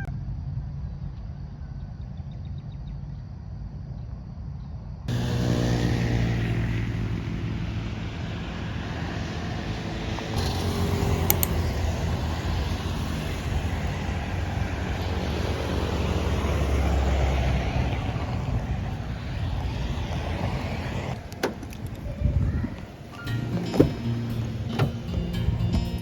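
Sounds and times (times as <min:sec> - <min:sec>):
road and traffic noise: 0:05.1 - 0:26.0
vehicle engine running: 0:05.1 - 0:26.0.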